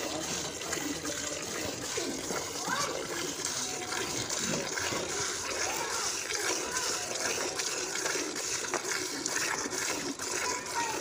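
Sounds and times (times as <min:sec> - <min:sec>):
milk squirting into metal bucket: 0:00.0 - 0:11.0.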